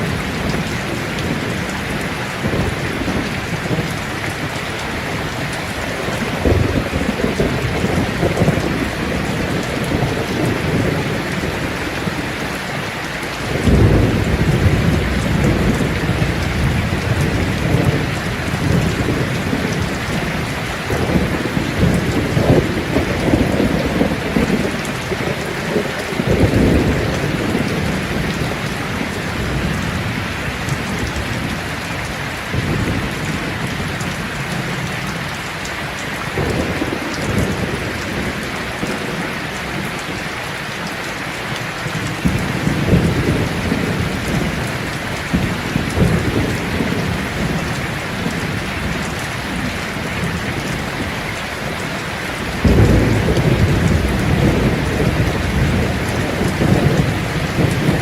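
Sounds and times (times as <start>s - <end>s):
thunder rumbling: 0.0s - 40.8s, 41.7s - 58.0s
heavy rain falling: 0.0s - 58.0s.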